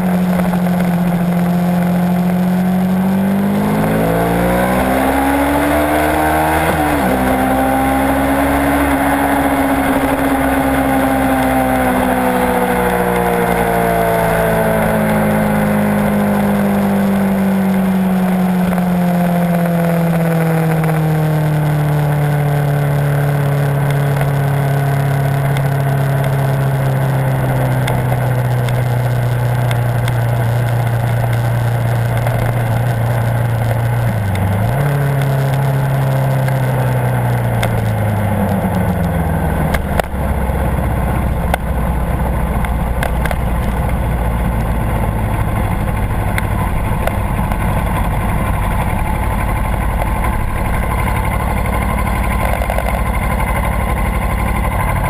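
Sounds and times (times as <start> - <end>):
motorcycle engine slowing to idle: 6.2 - 55.0.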